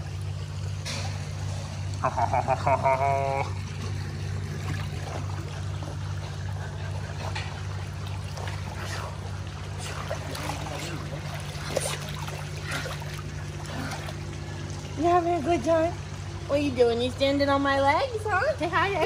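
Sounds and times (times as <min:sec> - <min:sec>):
low hum: 0:00.0 - 0:19.0
water sloshing and splashing: 0:00.0 - 0:19.0.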